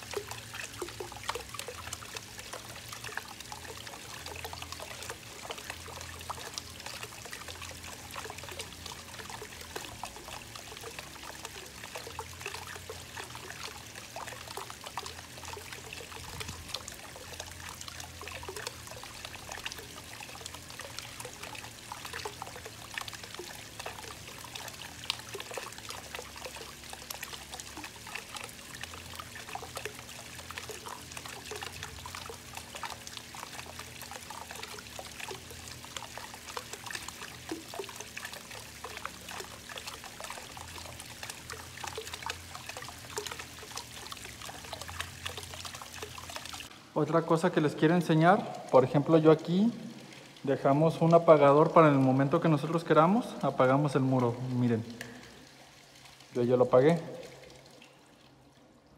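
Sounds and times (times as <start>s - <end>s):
fountain water trickling and splashing: 0.0s - 58.9s.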